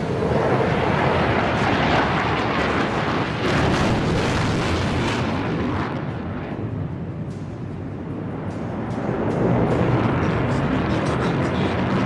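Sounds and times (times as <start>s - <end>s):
jet fighter roaring past: 0.0s - 12.0s.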